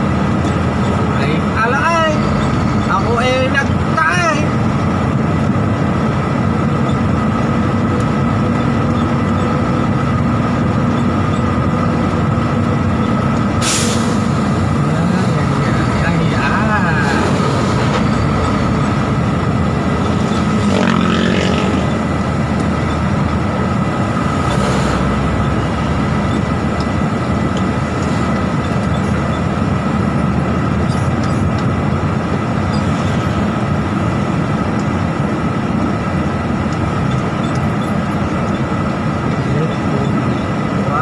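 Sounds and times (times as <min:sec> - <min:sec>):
road noise: 0:00.0 - 0:41.0
truck engine rumble: 0:00.0 - 0:41.0.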